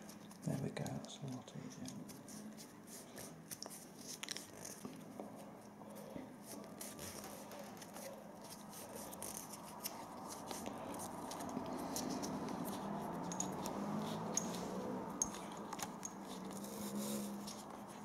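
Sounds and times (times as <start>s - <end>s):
tape rustling and crackling: 0.0s - 5.7s, 6.4s - 18.0s.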